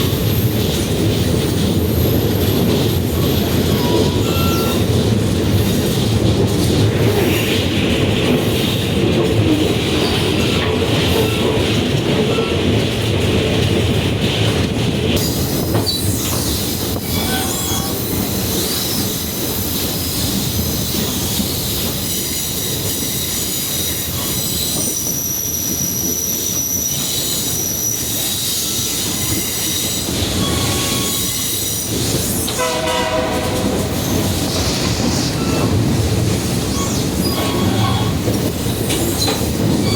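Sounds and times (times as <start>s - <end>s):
train wheels squealing on rails: 0.0s - 8.9s, 9.5s - 13.0s, 15.2s - 39.9s
train rumbling and clattering: 0.0s - 39.9s.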